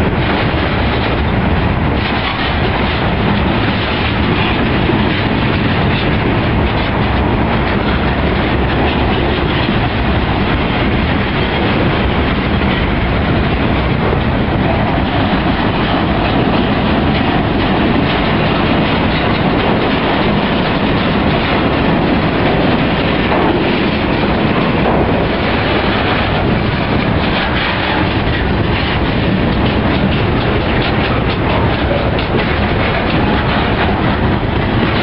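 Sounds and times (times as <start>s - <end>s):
freight train wheels rumbling on rails: 0.0s - 35.0s.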